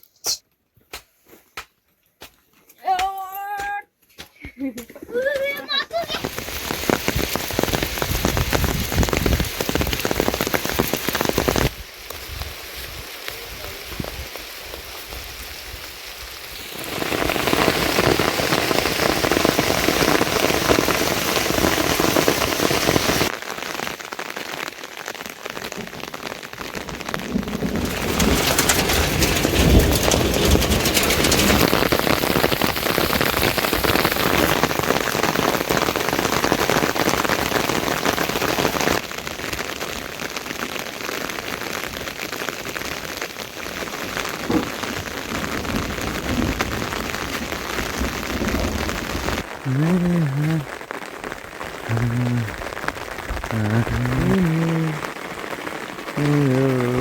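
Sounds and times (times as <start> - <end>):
heavy rain pouring: 5.7 - 57.0.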